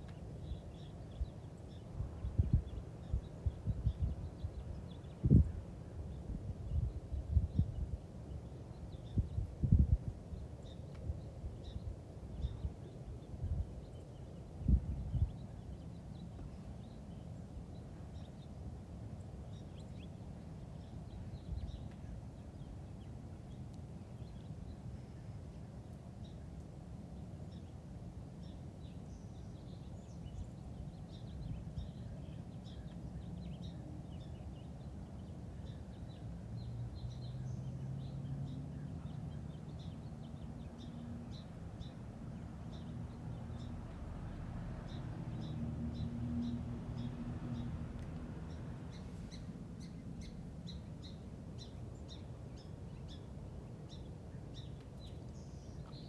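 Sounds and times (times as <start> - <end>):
small birds chirping: 0.0 - 26.6, 28.4 - 56.0.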